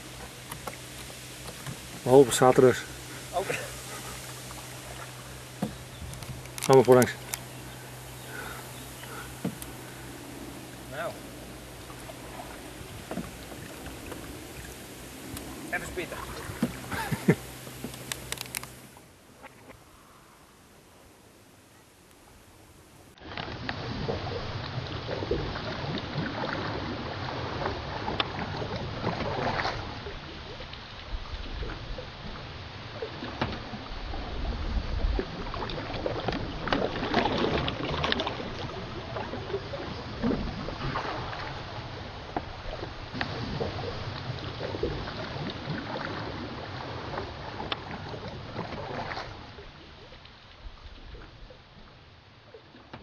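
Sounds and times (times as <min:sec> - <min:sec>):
canoe paddles splashing: 0:00.0 - 0:19.9, 0:22.3 - 0:53.0.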